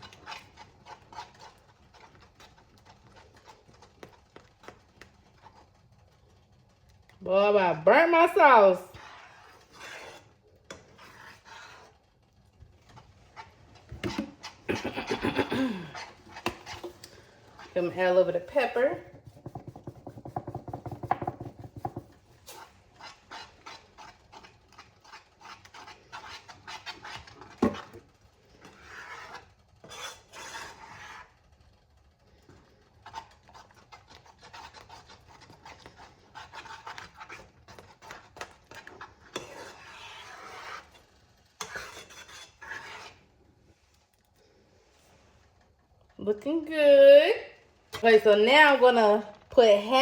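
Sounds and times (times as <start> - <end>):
utensil scraping pot: 0.0 - 45.7, 47.8 - 50.0.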